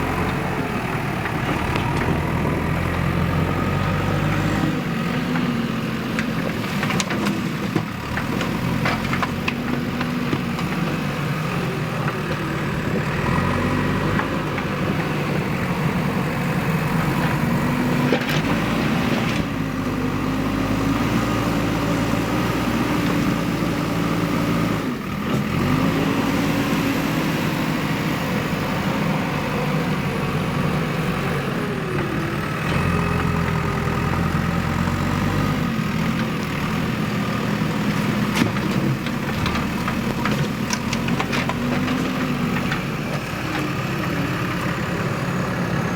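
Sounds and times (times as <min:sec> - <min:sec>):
diesel engine under load: 0:00.0 - 0:45.9.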